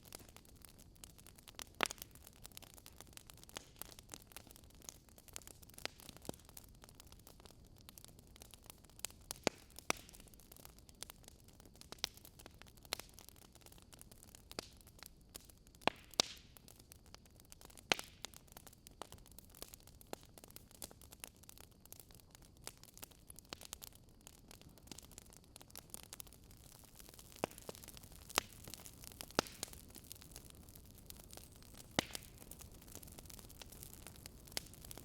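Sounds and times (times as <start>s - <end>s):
faint steady hiss: 0.0s - 35.0s
wood crackling in fireplace: 0.0s - 35.0s.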